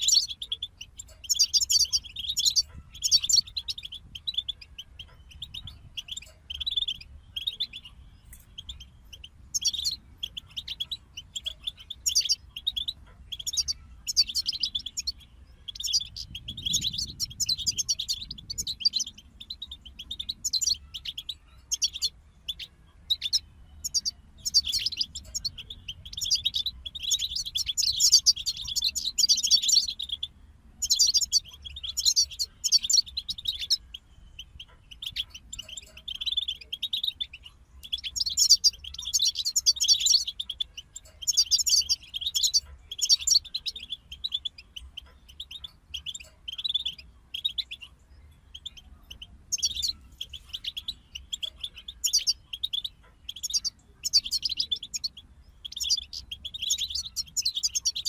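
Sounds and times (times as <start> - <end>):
goldfinches twittering song: 0.0 - 58.0.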